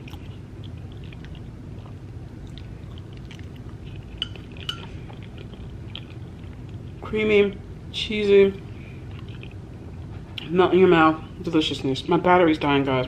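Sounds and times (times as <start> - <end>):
soft chewing: 0.0 - 7.1, 8.6 - 12.1.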